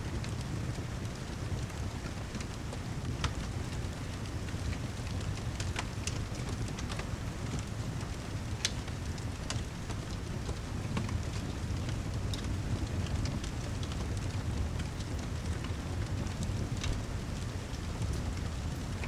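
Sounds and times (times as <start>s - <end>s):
steady rain: 0.0s - 19.0s
fireplace crackling: 0.1s - 19.0s.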